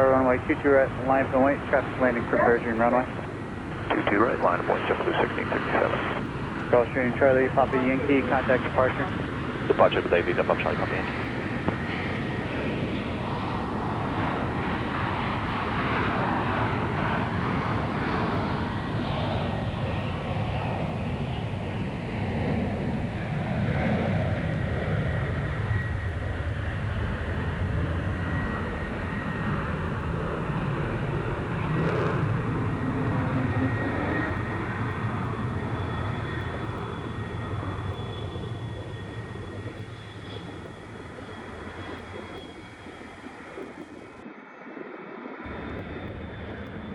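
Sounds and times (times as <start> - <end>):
jet engines roaring with high whine: 0.0 - 46.9.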